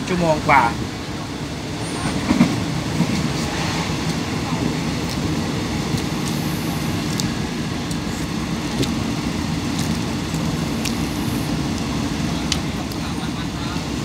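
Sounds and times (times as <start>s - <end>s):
train rumbling from inside carriage: 0.0s - 14.0s.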